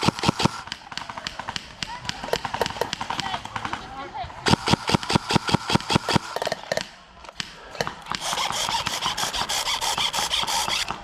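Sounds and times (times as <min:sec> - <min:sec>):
airsoft gun shots: 0:00.0 - 0:03.8, 0:04.4 - 0:11.0.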